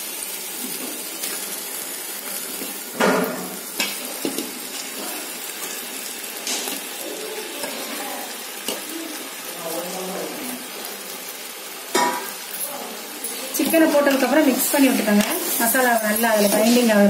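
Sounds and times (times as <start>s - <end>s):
sauce sizzling in a metal pot: 0.0s - 17.0s.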